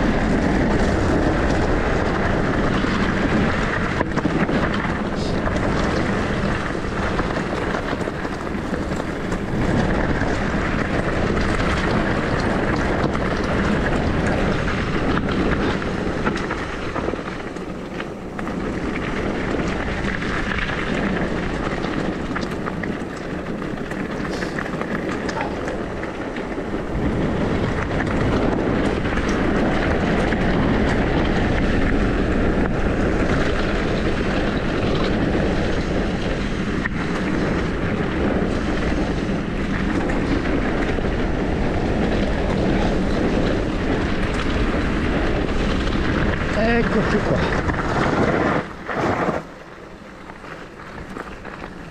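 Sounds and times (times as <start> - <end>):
bike rolling and rattling on trail: 0.0 - 51.9
wind rushing over microphone: 0.0 - 51.9.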